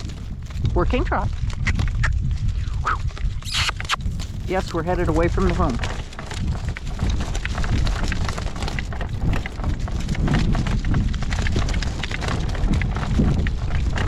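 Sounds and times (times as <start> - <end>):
horse and cart rattling: 0.0 - 14.0
wind buffeting microphone: 0.0 - 14.0.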